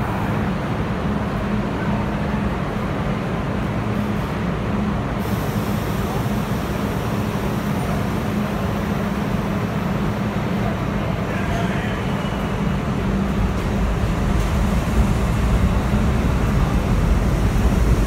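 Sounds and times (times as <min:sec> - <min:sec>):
subway train humming and rumbling: 0:00.0 - 0:18.0.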